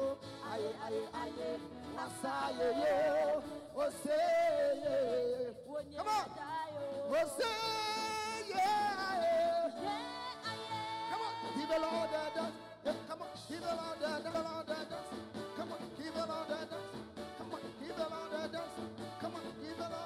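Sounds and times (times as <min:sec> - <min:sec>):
live gospel band: 0:00.0 - 0:20.0
man and woman singing: 0:00.0 - 0:20.0.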